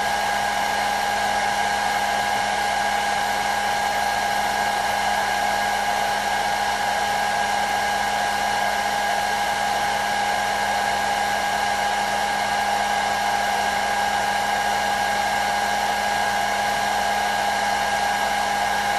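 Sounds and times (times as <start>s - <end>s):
hair dryer blowing air: 0.0s - 18.9s.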